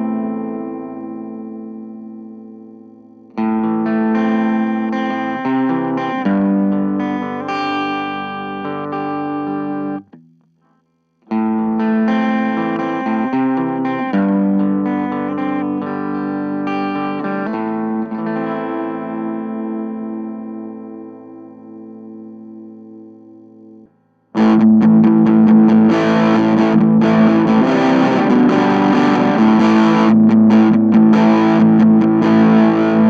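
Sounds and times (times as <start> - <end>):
electric guitar ringing chords: 0.0 - 10.3, 11.3 - 33.0.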